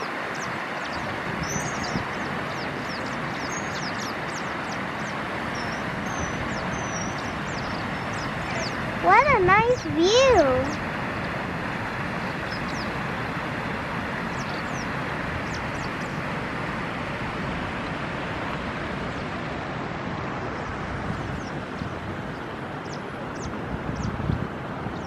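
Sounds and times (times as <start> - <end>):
rushing outdoor noise: 0.0 - 25.0.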